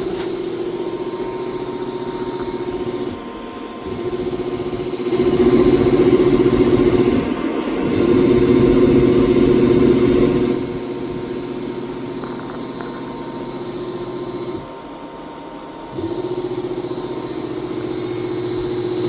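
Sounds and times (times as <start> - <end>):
machinery high-pitched whine: 0.0 - 19.0
machinery hum: 0.0 - 19.0.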